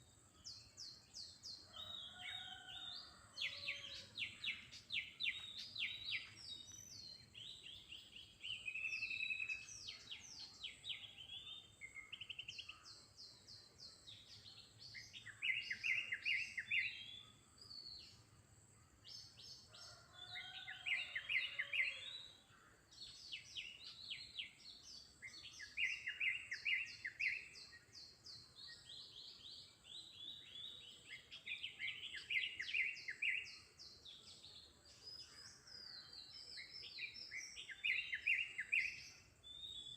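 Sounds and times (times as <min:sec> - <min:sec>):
faint outdoor background noise: 0:00.0 - 0:39.9.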